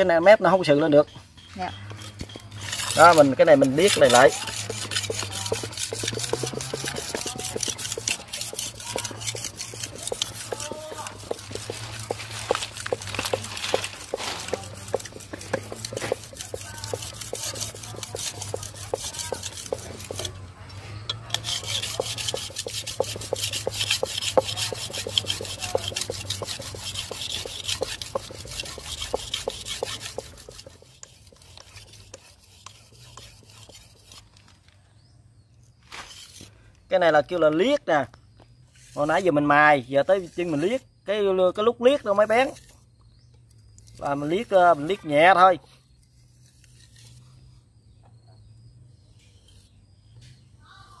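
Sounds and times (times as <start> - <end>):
knife scraping on brick: 1.8 - 34.5, 35.8 - 36.6, 38.6 - 41.0, 42.2 - 44.6, 45.8 - 47.5, 49.2 - 50.5.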